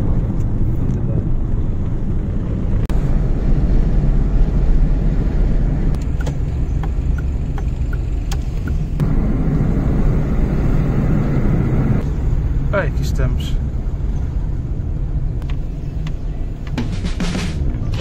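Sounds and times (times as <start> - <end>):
car cabin road noise and engine: 0.0 - 18.0.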